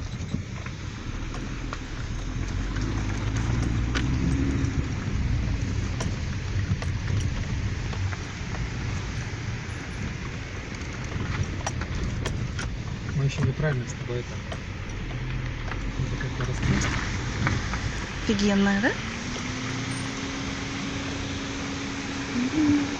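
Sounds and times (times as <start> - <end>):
sharp clicks and crackle: 0.0 - 20.1
car engine and tyre rumble: 0.0 - 22.9.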